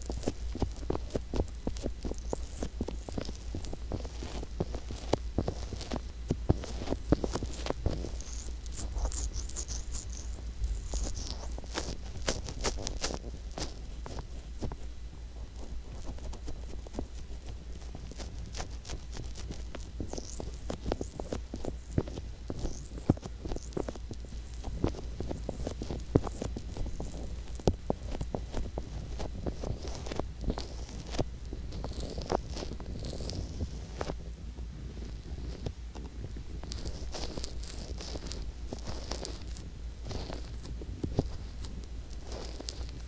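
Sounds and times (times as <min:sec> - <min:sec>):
fingertips rubbing microphone: 0:00.0 - 0:43.0
steady low rumble: 0:00.0 - 0:43.0.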